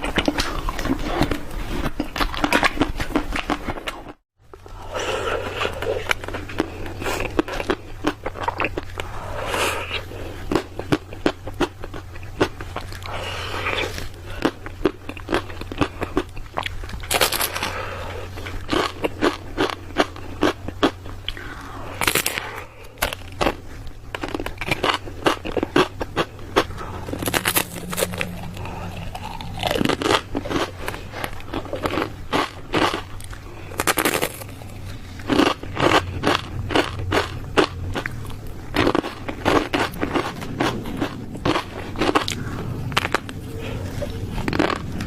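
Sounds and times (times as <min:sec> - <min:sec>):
crunchy bites and chewing: 0:00.0 - 0:04.2, 0:05.1 - 0:45.0
steady low hum: 0:00.0 - 0:45.0.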